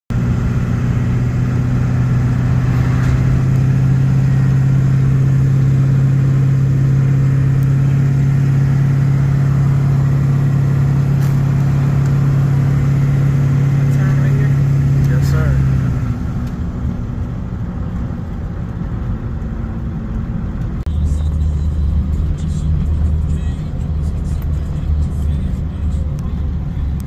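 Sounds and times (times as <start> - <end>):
truck engine and road drone: 0.1 - 27.0.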